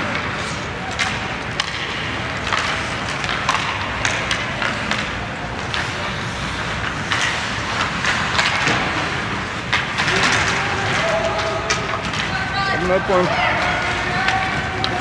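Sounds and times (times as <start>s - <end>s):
skate blades scraping ice: 0.0s - 15.0s
sticks and puck clacking: 0.0s - 15.0s.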